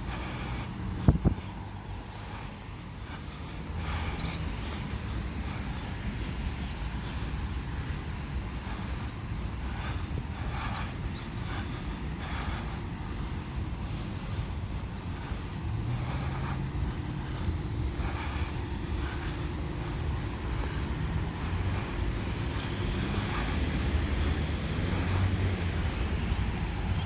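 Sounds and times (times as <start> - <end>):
traffic rumbling past: 0.0 - 27.0.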